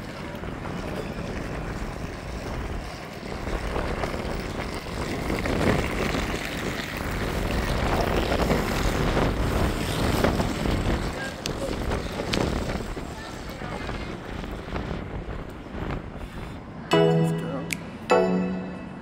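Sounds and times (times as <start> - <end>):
low rumble of vehicles: 0.0 - 19.0.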